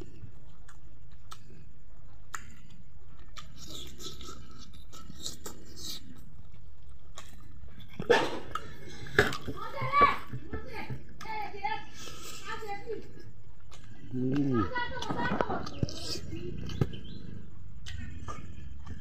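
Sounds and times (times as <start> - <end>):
mouth chewing: 0.0 - 9.6, 11.2 - 19.0.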